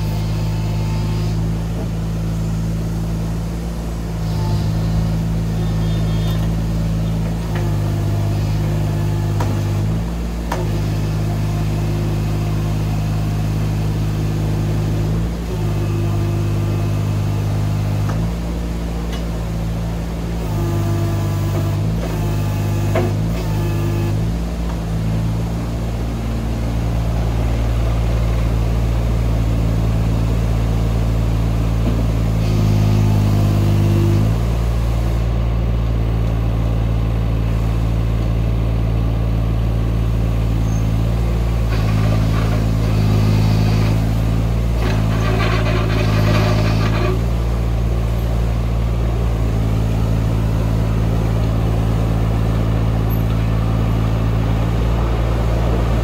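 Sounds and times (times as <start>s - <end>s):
excavator diesel engine running: 0.0s - 56.0s
hydraulics working: 0.0s - 56.0s.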